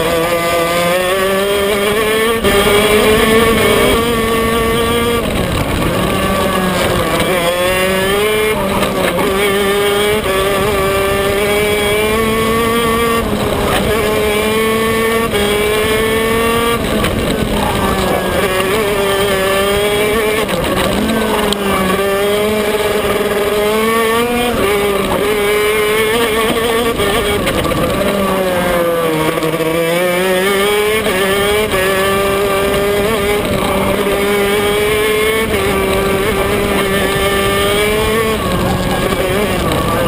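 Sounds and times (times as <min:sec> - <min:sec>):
two-stroke kart engine racing: 0:00.0 - 0:40.0.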